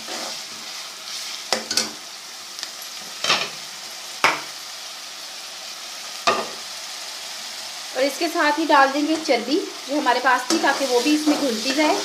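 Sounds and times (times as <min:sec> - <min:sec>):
onion sizzling in a pan: 0:00.0 - 0:12.0.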